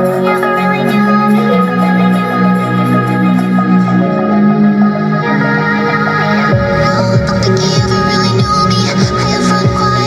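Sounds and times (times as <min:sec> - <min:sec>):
music with sustained chords: 0:00.0 - 0:10.0.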